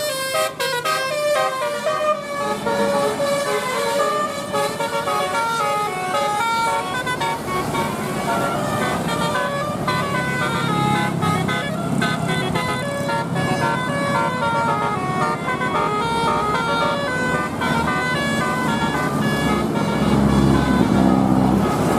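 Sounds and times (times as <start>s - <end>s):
bus air horn tune: 0.0s - 21.9s
bus engine running: 0.0s - 21.9s.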